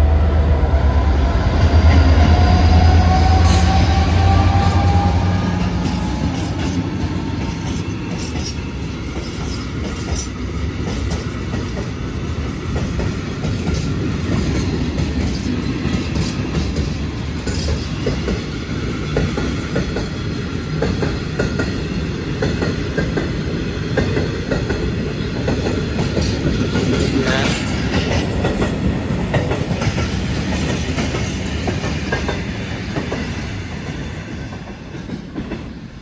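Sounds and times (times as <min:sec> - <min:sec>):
freight train wheels clickety-clack: 0:01.0 - 0:36.0.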